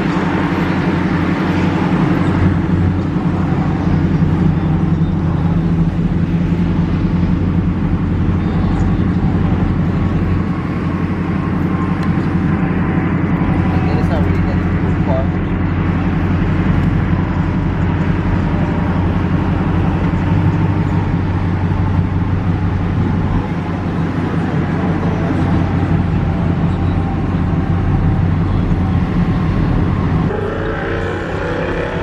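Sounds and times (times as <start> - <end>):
truck engines rumbling: 0.0 - 32.0.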